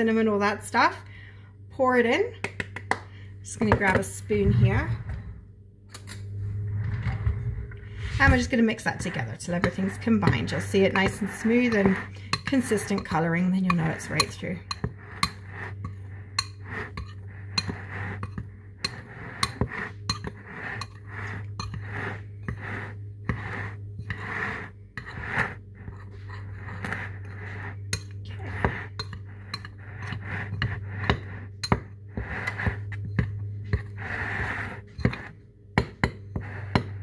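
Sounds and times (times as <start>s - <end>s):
steady low hum: 0.0s - 37.0s
spoon scraping through flour: 5.9s - 37.0s.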